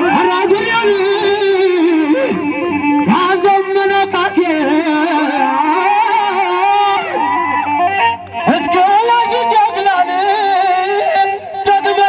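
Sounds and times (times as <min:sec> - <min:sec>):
man chanting through microphone: 0:00.0 - 0:12.0.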